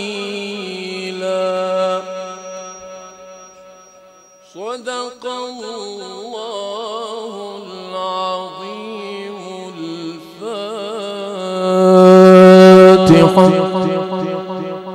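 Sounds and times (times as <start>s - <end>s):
person chanting melodically: 0.0s - 3.6s, 4.5s - 14.9s.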